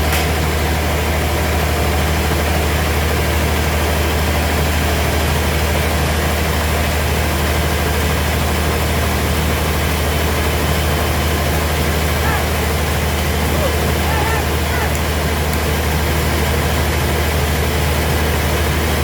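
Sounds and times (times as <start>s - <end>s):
sawmill machinery humming: 0.0s - 19.0s.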